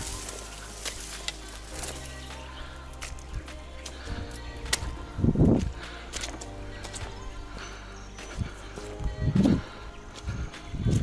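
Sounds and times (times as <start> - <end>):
background music sustained tones: 0.0 - 11.0.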